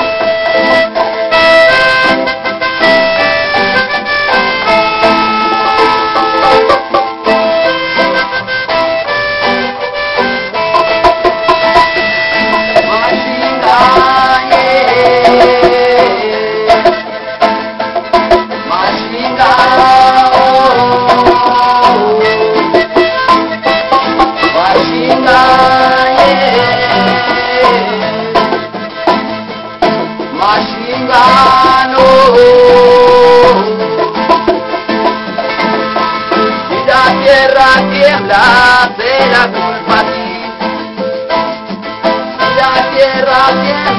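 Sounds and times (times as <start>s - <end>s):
bending melody line: 0.0s - 43.9s
strummed charango and guitar: 0.0s - 43.9s.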